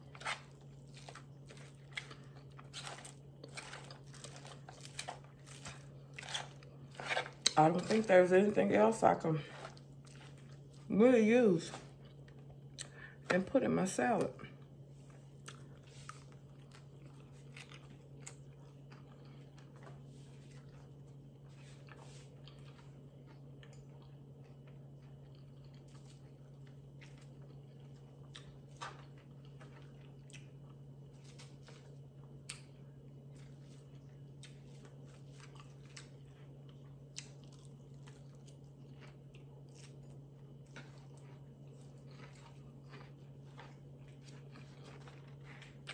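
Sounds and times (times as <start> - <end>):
chewing crunchy lettuce: 0.0 - 13.3, 14.2 - 45.9.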